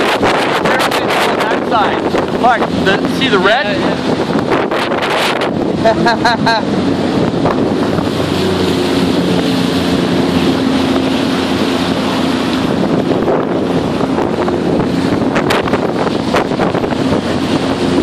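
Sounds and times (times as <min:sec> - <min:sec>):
watercraft engine running: 0:00.0 - 0:18.0
wind on microphone: 0:00.0 - 0:18.0.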